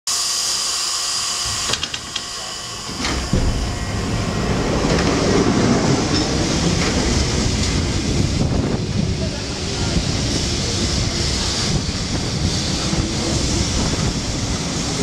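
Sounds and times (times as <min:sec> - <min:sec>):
tram rumbling on rails: 0:01.4 - 0:15.0.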